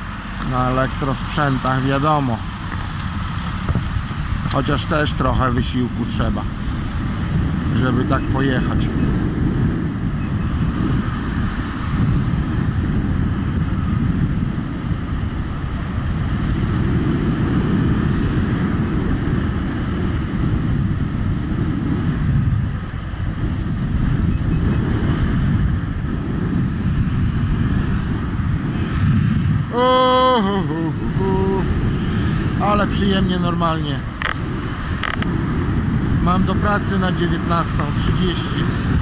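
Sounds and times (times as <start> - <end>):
wind rushing on microphone: 0.0 - 39.0.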